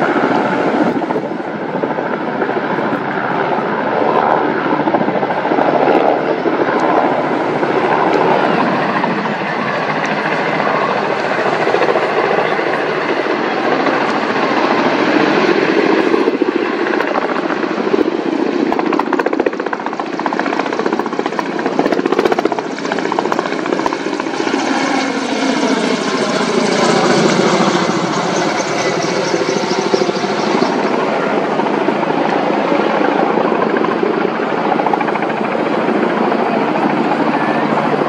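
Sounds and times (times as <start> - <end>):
helicopter rotors and turbines: 0.0 - 38.0.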